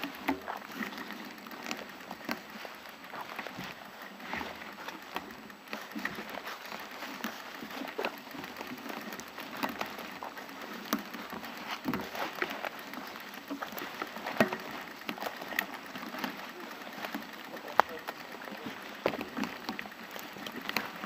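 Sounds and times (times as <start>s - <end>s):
footsteps crackling on dry twigs: 0.0s - 21.0s.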